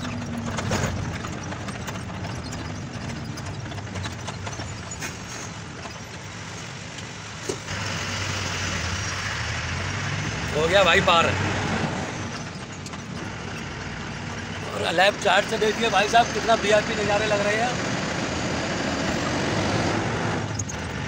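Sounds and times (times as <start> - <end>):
diesel truck engine running: 0.0 - 21.0
knocks and rattles: 0.0 - 21.0.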